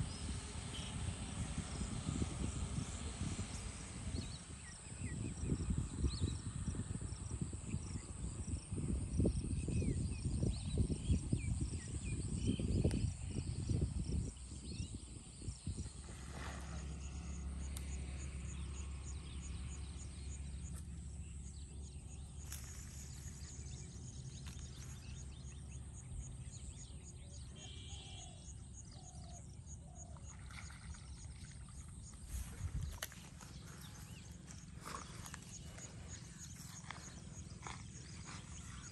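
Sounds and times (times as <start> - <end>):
insects chirping: 0.0 - 38.9
steady low hum: 0.0 - 38.9.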